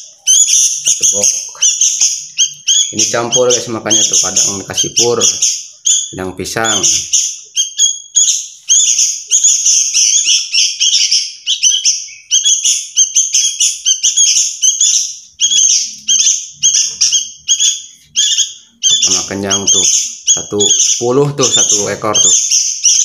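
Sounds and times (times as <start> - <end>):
fledglings begging chirps: 0.0 - 23.0.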